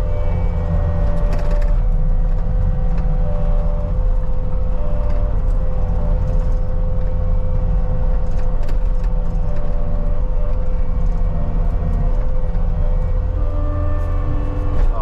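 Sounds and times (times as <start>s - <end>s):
steady whine: 0.0s - 15.0s
track loader diesel engine running: 0.0s - 15.0s.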